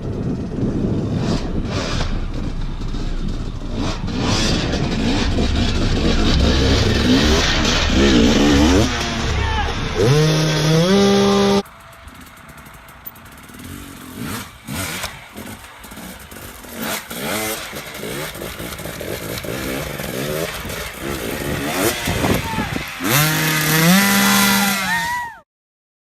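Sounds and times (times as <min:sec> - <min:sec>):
dirt bike engine revving: 0:00.0 - 0:25.3.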